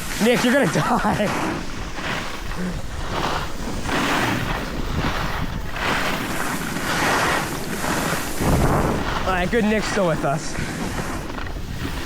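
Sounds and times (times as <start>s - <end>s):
skis scraping over snow: 0.0s - 12.0s
wind rushing over microphone: 0.0s - 12.0s.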